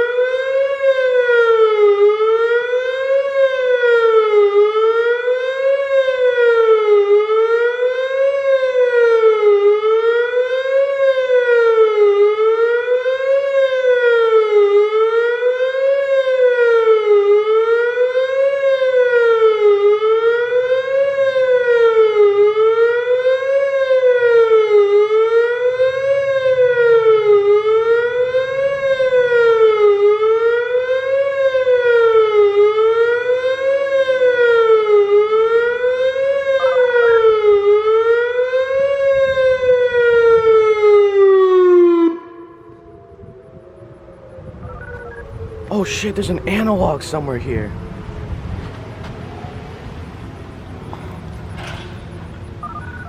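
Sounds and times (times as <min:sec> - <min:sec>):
warning siren wailing: 0:00.0 - 0:50.0.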